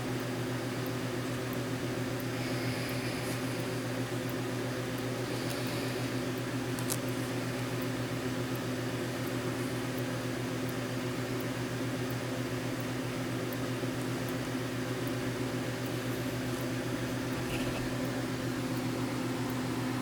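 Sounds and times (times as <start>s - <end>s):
low electrical hum with hiss: 0.0s - 20.0s.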